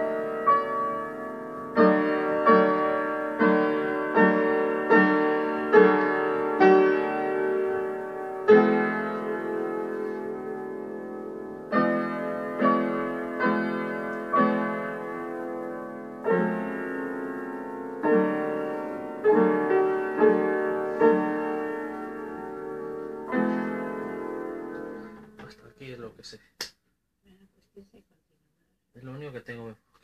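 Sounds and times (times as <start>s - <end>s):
piano chords ringing: 0.0s - 25.5s.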